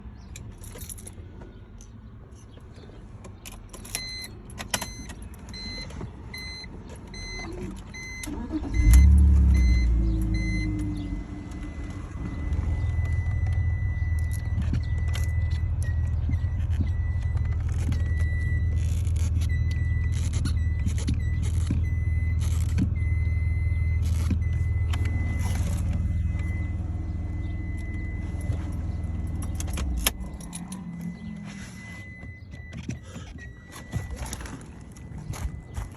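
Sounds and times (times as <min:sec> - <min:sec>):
car engine starting and idling: 0:02.9 - 0:35.9
car electronic beeps: 0:03.9 - 0:35.9.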